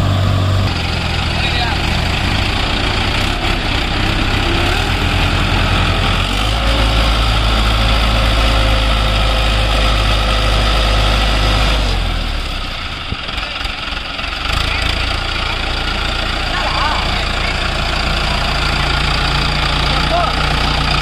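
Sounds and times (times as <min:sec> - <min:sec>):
tractor diesel engine: 0:00.0 - 0:21.0.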